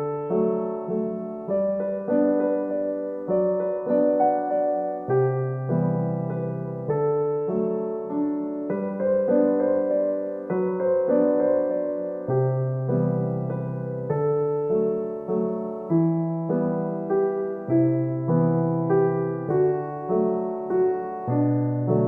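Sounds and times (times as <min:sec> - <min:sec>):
soft electric piano chords: 0:00.0 - 0:22.0.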